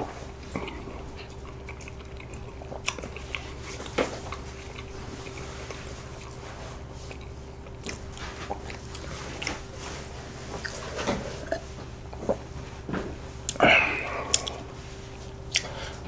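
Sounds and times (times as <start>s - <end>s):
man chewing and swallowing: 0.1s - 12.5s, 13.4s - 16.0s.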